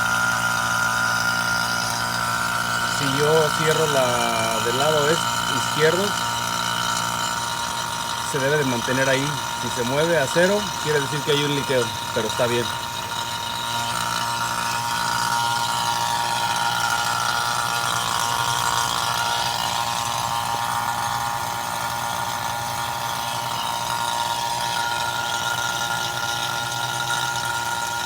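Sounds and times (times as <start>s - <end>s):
vacuum pump humming and whining: 0.0s - 28.0s.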